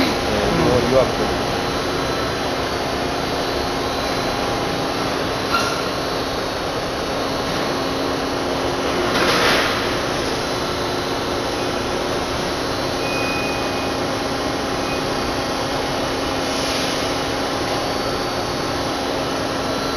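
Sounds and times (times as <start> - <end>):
production line machinery noise: 0.0 - 19.9.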